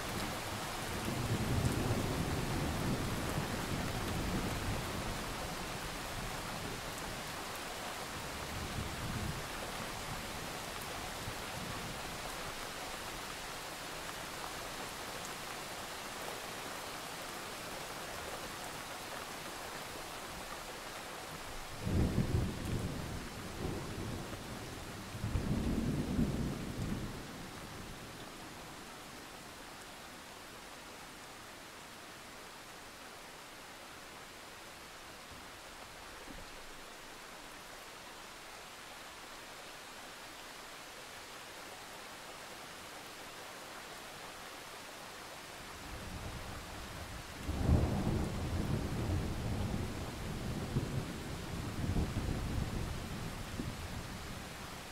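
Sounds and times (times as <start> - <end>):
rain hiss: 0.0 - 54.9.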